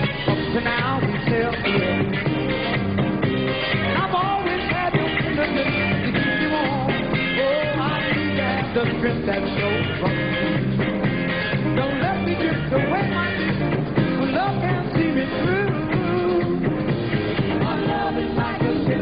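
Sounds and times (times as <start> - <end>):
live band playing soul-disco: 0.0 - 19.0.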